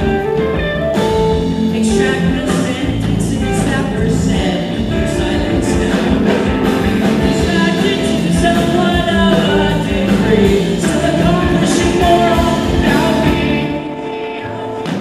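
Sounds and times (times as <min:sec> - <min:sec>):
drum kit: 0:00.0 - 0:15.0
electric guitar: 0:00.0 - 0:15.0
man singing: 0:01.3 - 0:15.0.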